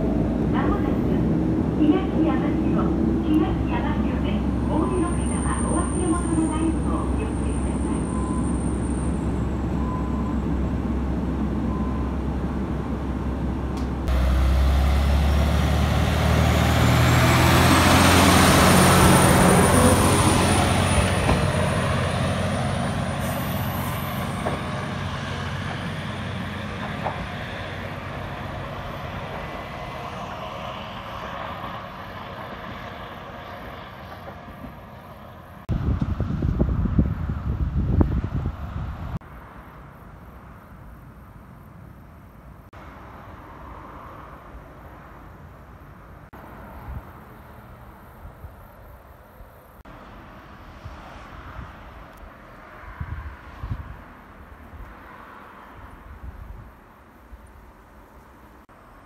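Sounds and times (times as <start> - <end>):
diesel railcar engine: 0.0 - 59.0.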